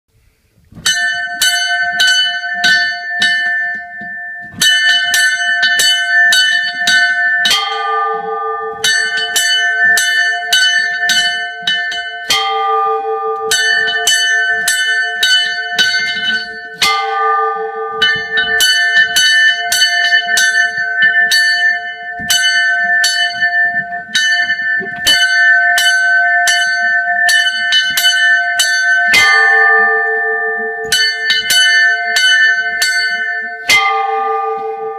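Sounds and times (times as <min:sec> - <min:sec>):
large low church bell: 0:00.7 - 0:34.9
small high church bell: 0:00.7 - 0:34.9.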